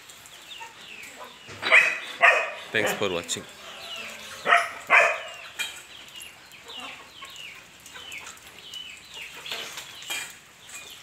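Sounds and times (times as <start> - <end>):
chickens chirping: 0.2 - 11.0.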